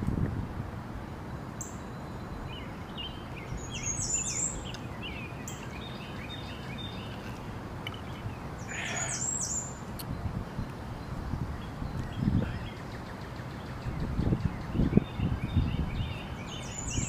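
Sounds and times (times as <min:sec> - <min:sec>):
low background noise: 0:00.0 - 0:17.0
birds chirping: 0:01.2 - 0:17.0.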